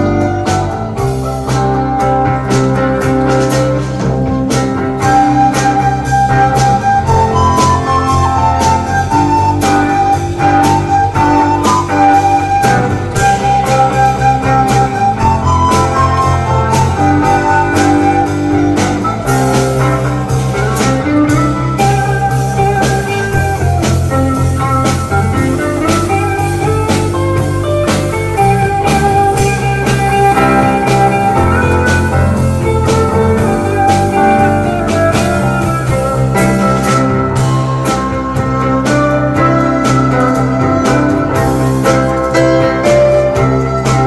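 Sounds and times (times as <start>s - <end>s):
bass guitar: 0.0s - 44.0s
drum kit beat: 0.0s - 44.0s
electric guitar: 0.0s - 44.0s
recorders playing melody: 0.0s - 44.0s.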